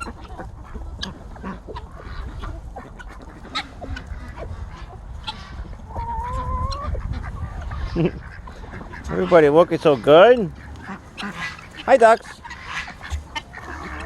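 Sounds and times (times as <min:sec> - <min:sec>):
ducks quacking: 0:00.0 - 0:14.0
geese honking: 0:00.0 - 0:14.0.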